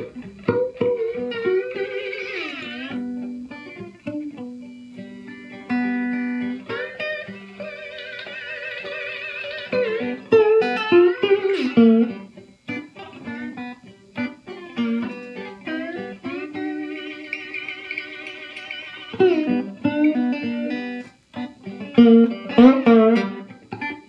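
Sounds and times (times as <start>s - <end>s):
electric guitar blues lick: 0.0s - 24.0s.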